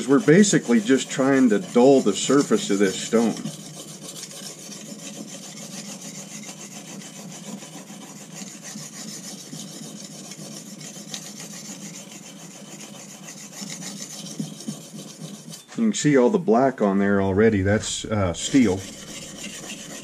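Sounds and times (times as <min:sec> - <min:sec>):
blade scraping on sharpening stone: 0:00.0 - 0:15.7, 0:18.4 - 0:20.0.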